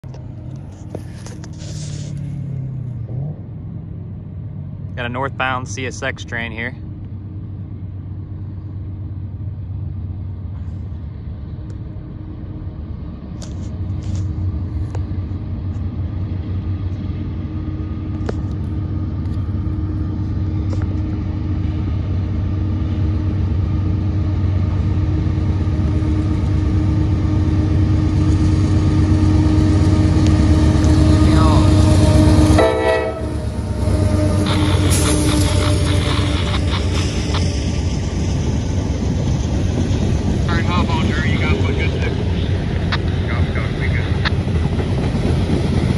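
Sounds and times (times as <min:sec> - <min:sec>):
diesel locomotive engine rumble: 0:00.0 - 0:45.9.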